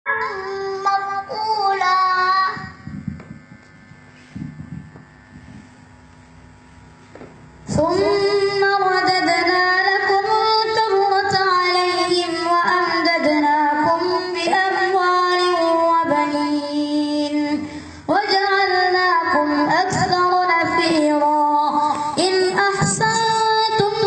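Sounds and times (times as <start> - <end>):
boy chanting melodically: 0.1 - 3.4, 7.6 - 24.0.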